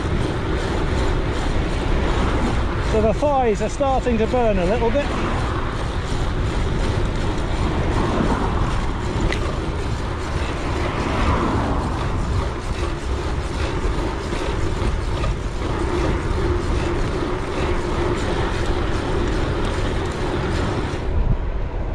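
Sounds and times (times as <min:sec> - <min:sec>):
bike tyre noise: 0:00.0 - 0:21.9
low steady hum: 0:00.0 - 0:21.9
wind buffeting microphone: 0:00.0 - 0:21.9.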